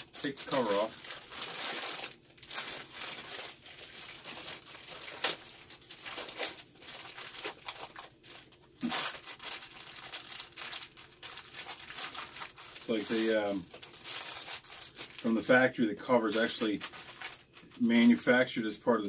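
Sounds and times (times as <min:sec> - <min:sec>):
plastic cover crinkling and tearing: 0:00.0 - 0:19.0.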